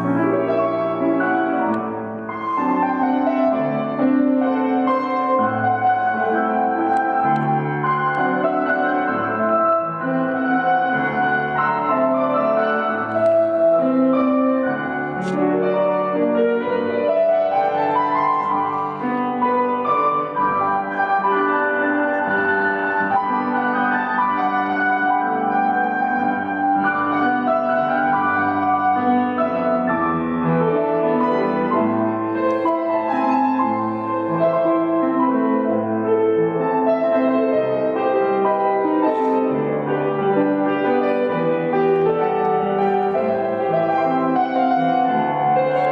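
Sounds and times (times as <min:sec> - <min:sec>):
grand piano melody: 0:00.0 - 0:45.9.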